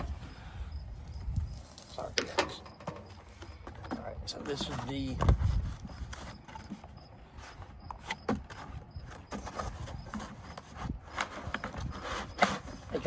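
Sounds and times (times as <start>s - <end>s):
handling objects in cardboard box: 0.0s - 13.0s.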